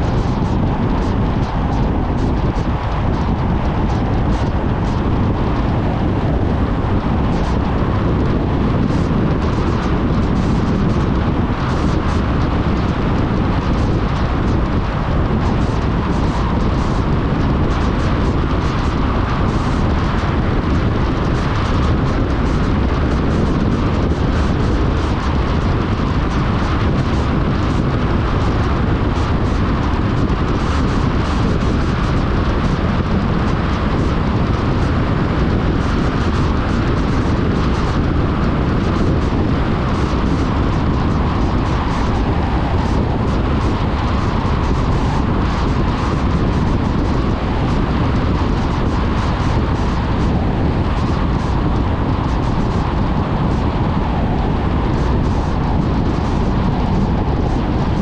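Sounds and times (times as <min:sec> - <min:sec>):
car driving rumble: 0:00.0 - 0:53.0.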